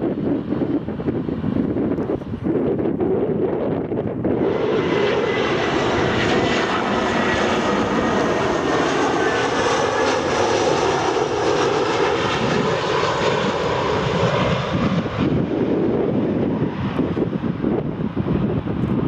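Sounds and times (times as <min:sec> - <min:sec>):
jet engines passing overhead: 0:00.0 - 0:19.0.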